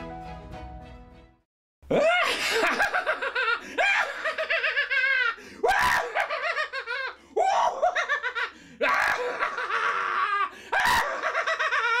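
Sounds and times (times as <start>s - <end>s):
man laughing maniacally: 1.9s - 12.0s.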